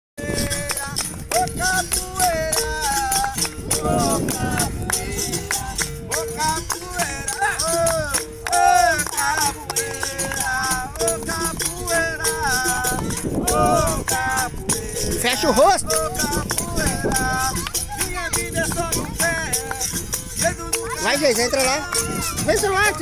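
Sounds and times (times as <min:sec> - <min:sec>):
person singing: 0:00.2 - 0:23.0
rattle and tambourine percussion: 0:00.2 - 0:23.0.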